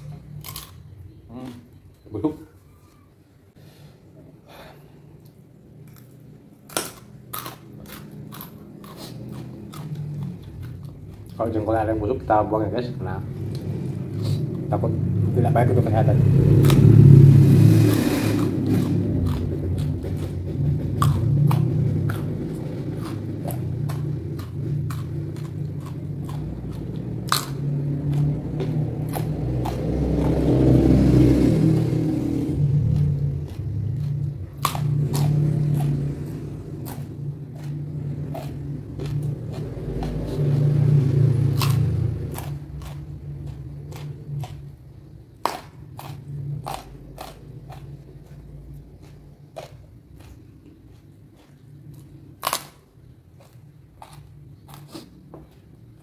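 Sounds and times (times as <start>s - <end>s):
chewing crunchy food: 0.0s - 2.0s, 5.2s - 12.4s, 15.6s - 31.6s, 32.5s - 56.0s
low hum: 0.0s - 56.0s.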